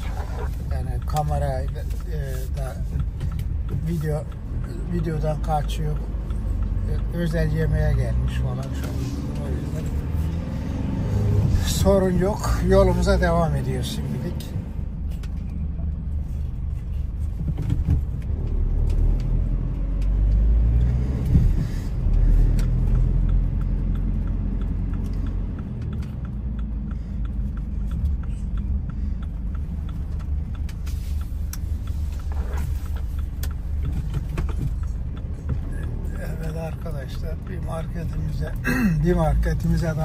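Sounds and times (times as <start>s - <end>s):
light evenly spaced ticks: 0.0s - 17.2s, 18.4s - 40.0s
engine and road rumble: 0.0s - 40.0s.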